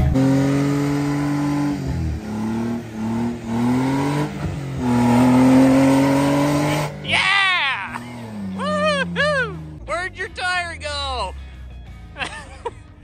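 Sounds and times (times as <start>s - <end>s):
off-road engine revving under load: 0.0s - 12.5s.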